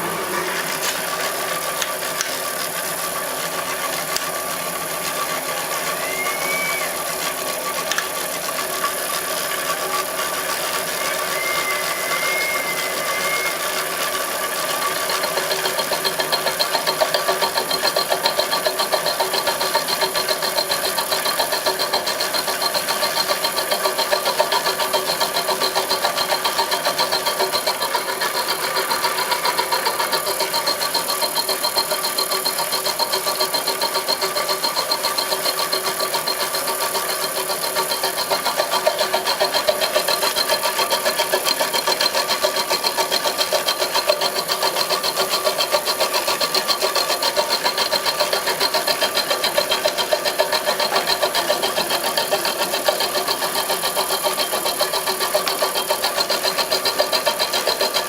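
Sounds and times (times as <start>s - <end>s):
milling machine rattling: 0.0s - 58.0s.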